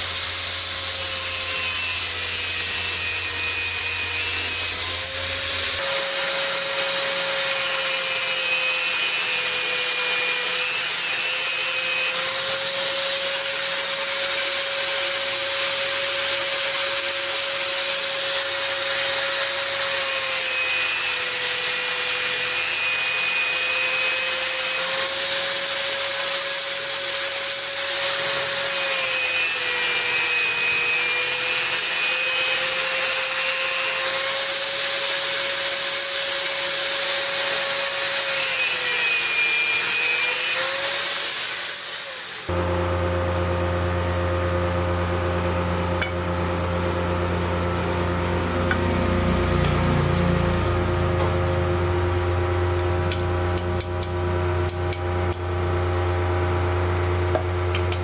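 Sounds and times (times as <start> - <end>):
power tool grinding: 0.0 - 58.0.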